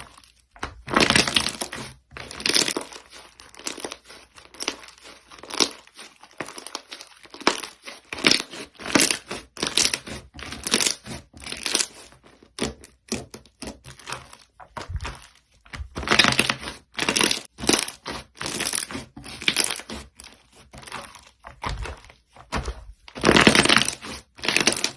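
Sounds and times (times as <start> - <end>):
slime squishing and popping: 0.1 - 24.9.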